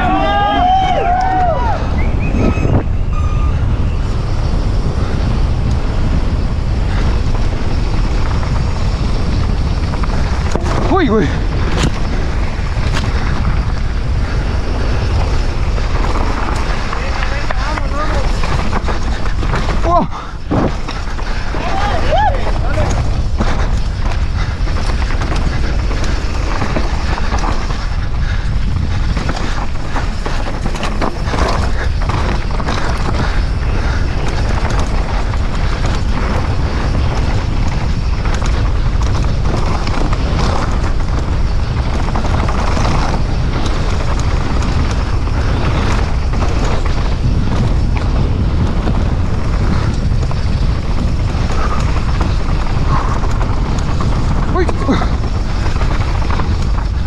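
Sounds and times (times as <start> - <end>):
bike rattling over rough ground: 0.0 - 57.0
wind buffeting microphone: 0.0 - 57.0.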